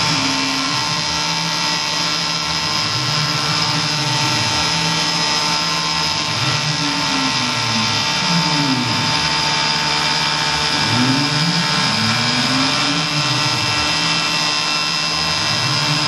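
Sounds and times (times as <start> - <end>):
high spindle whine: 0.0 - 16.0
motor tones rising and falling: 0.0 - 16.0.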